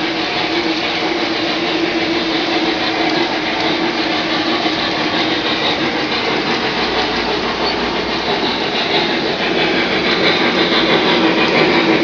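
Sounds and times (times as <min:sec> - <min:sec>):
model train running: 0:00.0 - 0:12.0.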